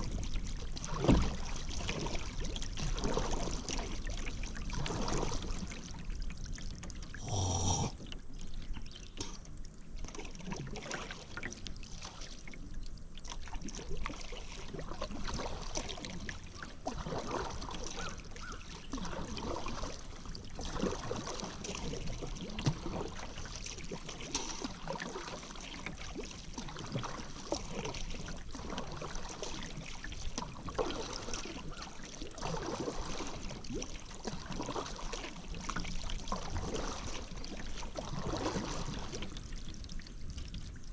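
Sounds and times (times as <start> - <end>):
water splashing off paddle: 0.0 - 6.1, 13.2 - 39.9
kayak paddle strokes in water: 0.0 - 40.9.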